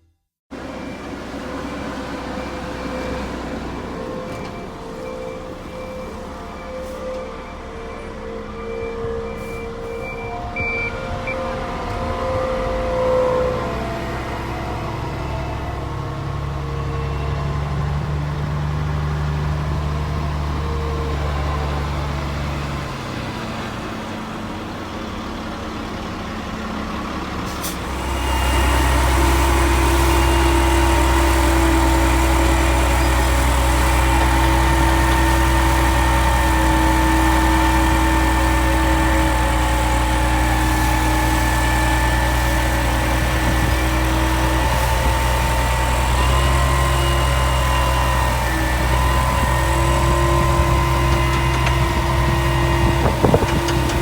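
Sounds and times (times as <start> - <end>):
heavy diesel engines running: 0.5 - 54.0
loud engine: 0.5 - 54.0.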